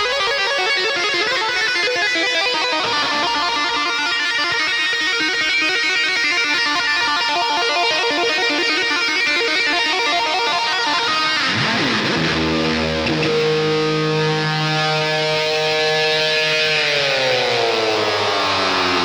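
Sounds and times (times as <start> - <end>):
plucked guitar music: 0.0 - 18.3.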